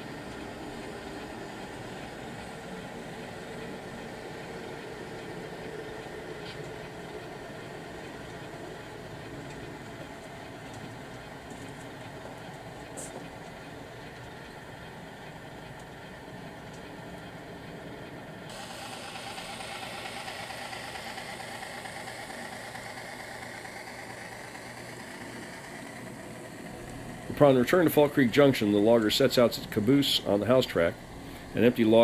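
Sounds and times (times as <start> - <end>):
hissy wavering hum: 0.0 - 32.0
model train engine sound: 0.0 - 32.0.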